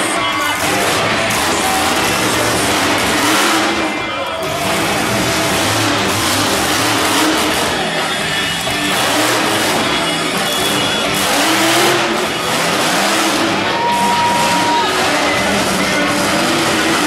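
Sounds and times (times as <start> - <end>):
monster truck engine revving: 0.0 - 17.0
music playing: 0.0 - 17.0.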